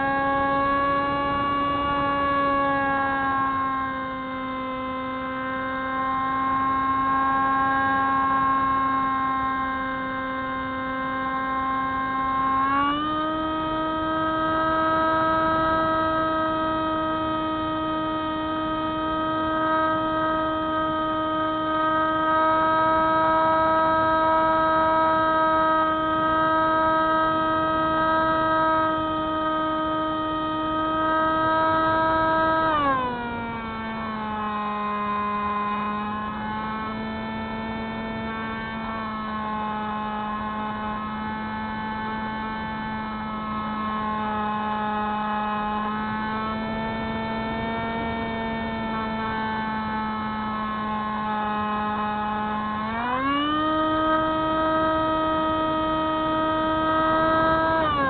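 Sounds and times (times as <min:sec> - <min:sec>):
model plane motor droning: 0:00.0 - 0:58.0.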